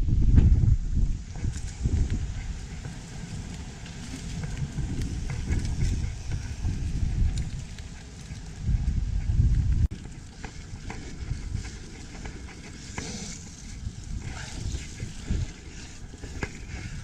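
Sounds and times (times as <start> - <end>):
wind buffeting microphone: 0.0 - 17.0
tyre and trail noise: 0.4 - 17.0
bike clicks and rattles: 1.1 - 17.0.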